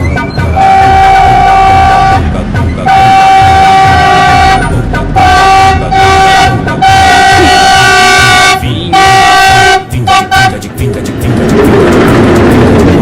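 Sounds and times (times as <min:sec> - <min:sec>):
train horn blasts: 0:00.0 - 0:10.6
train rumble: 0:00.0 - 0:13.0.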